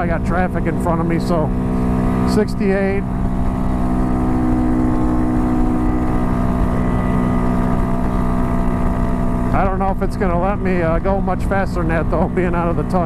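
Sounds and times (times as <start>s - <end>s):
motorcycle engine at high revs: 0.0s - 13.0s
wind rumbling on microphone: 0.0s - 13.0s.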